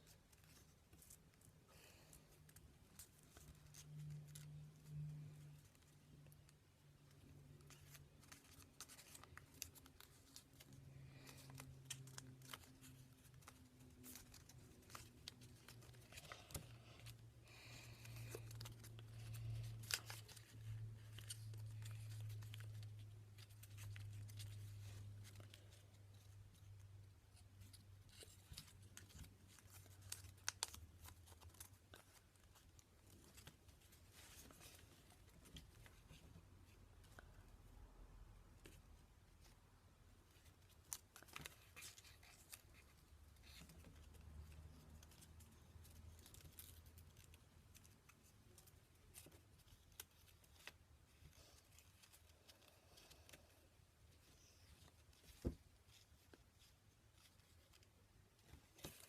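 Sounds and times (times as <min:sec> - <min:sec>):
paper rustling and crinkling: 0:00.0 - 0:37.5, 0:40.2 - 0:59.0
low steady hum: 0:00.0 - 0:59.0.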